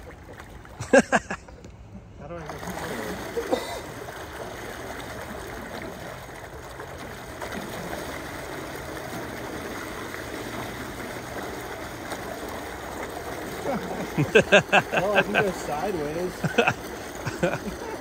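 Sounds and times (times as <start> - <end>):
thrusters churning water: 0.0 - 18.0
water splash: 0.0 - 18.0.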